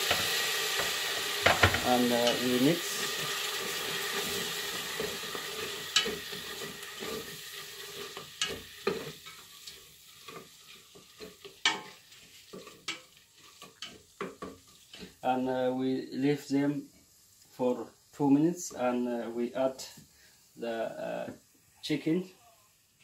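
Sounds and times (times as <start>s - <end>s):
onions and sauce sizzling in pot: 0.0s - 23.0s.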